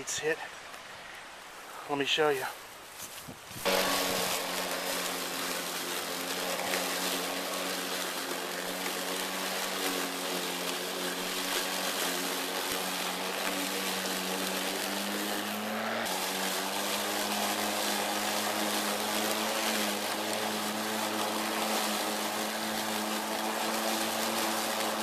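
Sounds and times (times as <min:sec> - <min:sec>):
lawn mower cutting grass: 0:03.0 - 0:25.0.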